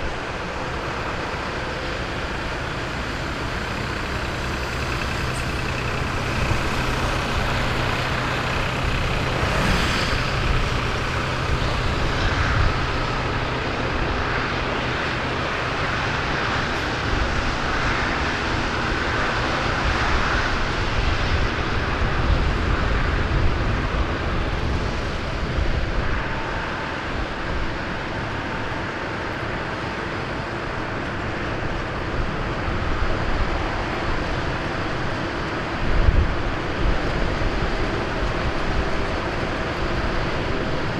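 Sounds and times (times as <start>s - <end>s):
tractor diesel engines driving past: 0.0s - 40.9s
traffic noise: 0.0s - 40.9s.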